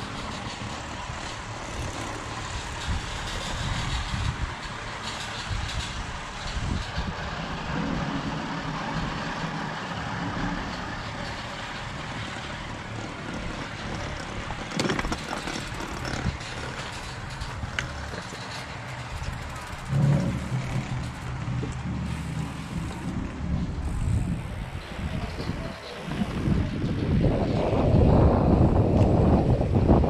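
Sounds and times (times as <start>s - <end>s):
chairlift mechanical drone: 0.0s - 30.0s
low rumble: 5.5s - 30.0s.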